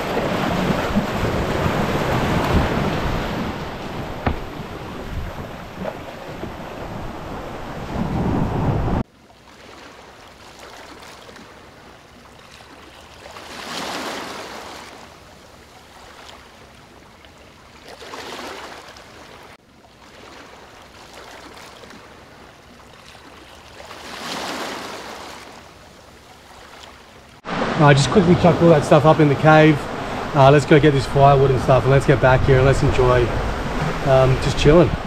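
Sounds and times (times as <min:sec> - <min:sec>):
ocean waves breaking on rocks: 0:00.0 - 0:17.0, 0:17.7 - 0:35.0.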